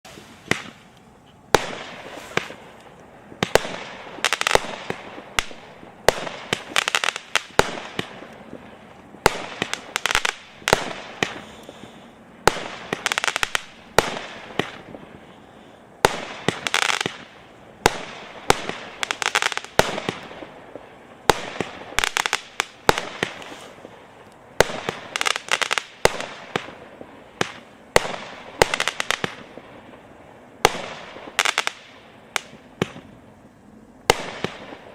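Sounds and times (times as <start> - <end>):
fireworks crackling: 0.0 - 34.9
fireworks reports: 0.0 - 34.9.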